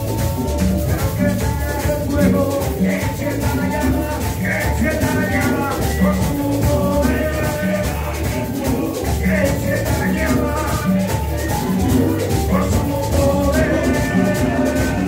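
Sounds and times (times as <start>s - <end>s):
bass line: 0.0s - 15.0s
drums and hand percussion: 0.0s - 15.0s
men singing through microphones: 0.0s - 15.0s.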